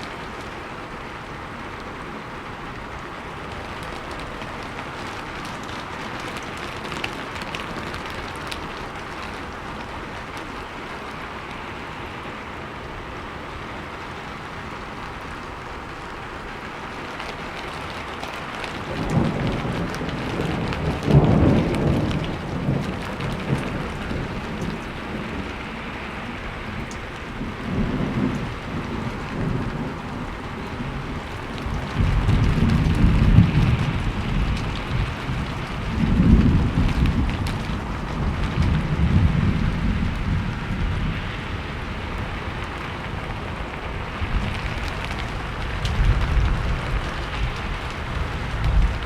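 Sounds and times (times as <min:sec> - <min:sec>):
steady rainfall: 0:00.0 - 0:49.0
thunder rumbling: 0:00.0 - 0:49.0.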